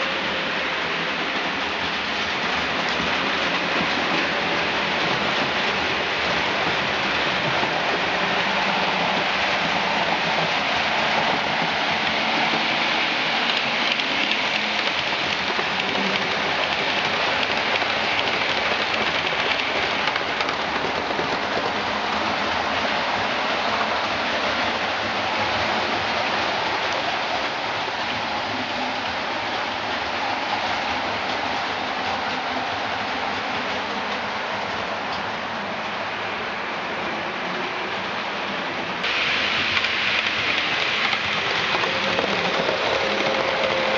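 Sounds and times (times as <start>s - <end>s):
model trains running on track: 0.0s - 43.9s.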